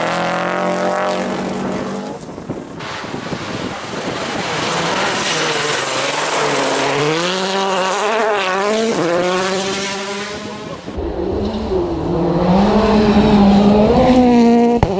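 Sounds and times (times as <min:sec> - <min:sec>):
rally car engine revving: 0:00.0 - 0:14.9.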